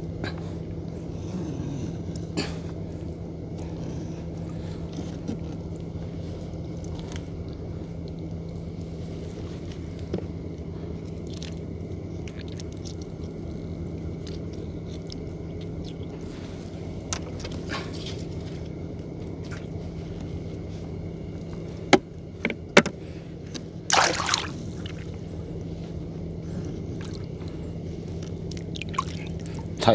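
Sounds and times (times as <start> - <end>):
boat engine humming: 0.0 - 29.9.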